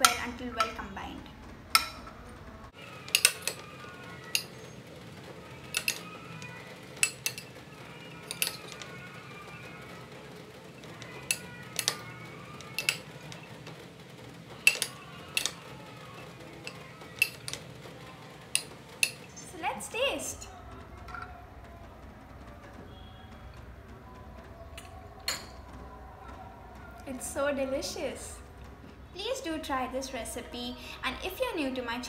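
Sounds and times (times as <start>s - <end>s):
faint background music: 0.0s - 32.0s.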